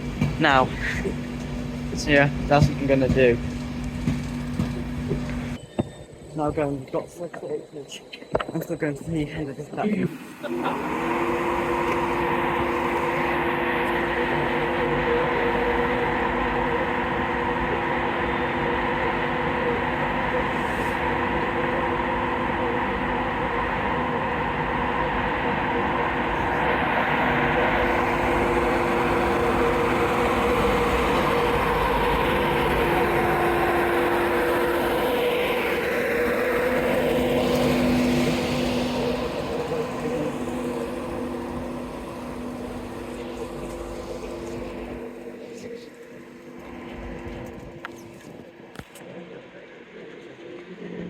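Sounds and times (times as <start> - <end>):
train equipment and fans humming: 0.0 - 51.0.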